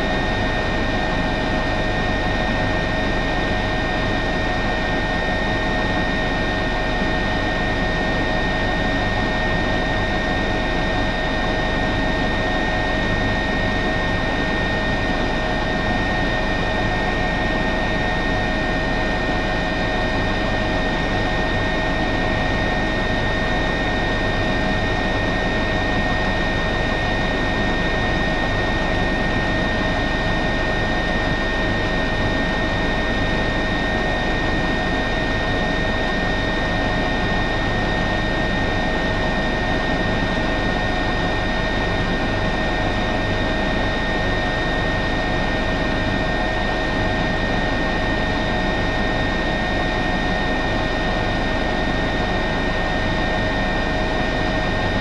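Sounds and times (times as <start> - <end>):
helicopter cockpit engine whine: 0.0 - 55.0
helicopter rotor rush: 0.0 - 55.0.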